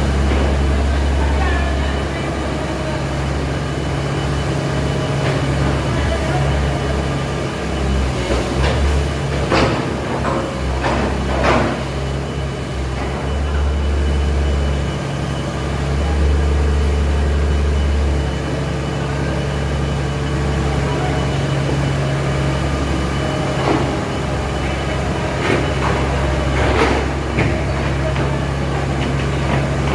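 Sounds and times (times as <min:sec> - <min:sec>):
large engine idling: 0:00.0 - 0:29.9.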